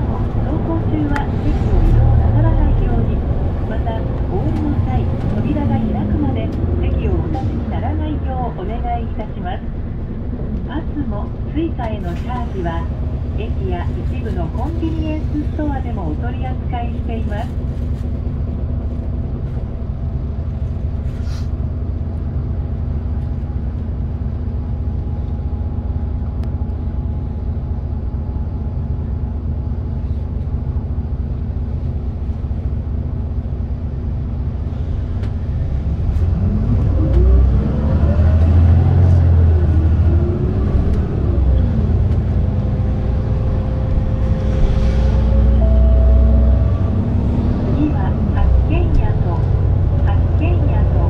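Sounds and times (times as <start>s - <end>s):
diesel bus engine: 0.0s - 51.0s.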